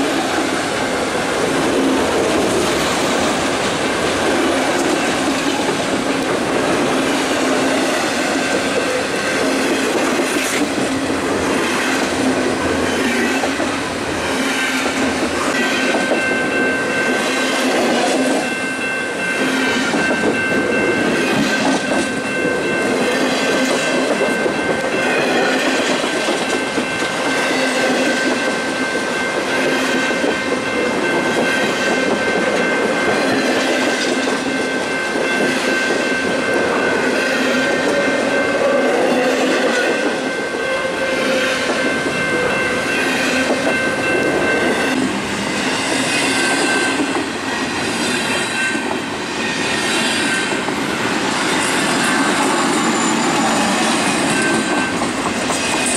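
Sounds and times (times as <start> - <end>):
freight train rolling rumble: 0.0 - 55.9
train wheels clicking: 0.0 - 55.9.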